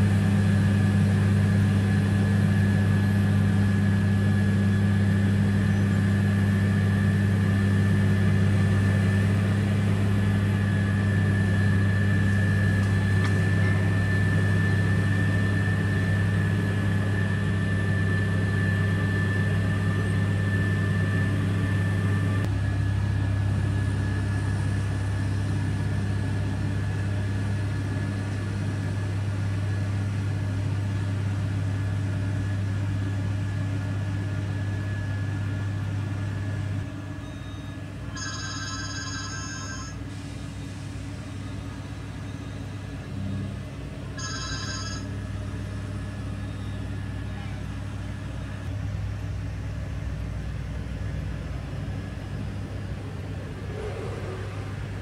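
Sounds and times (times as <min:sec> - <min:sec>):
diesel machinery engine hum: 0:00.0 - 0:55.0.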